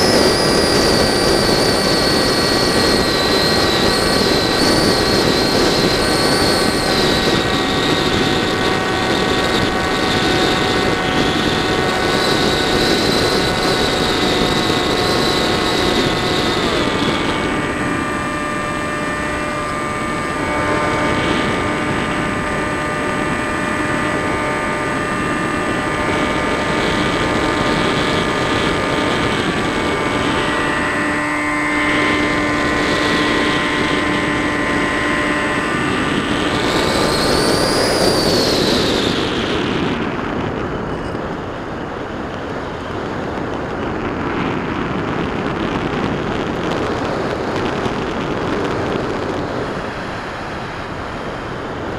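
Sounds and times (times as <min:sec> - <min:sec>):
model plane motor whining: 0:00.0 - 0:51.9
wind noise on microphone: 0:00.0 - 0:51.9.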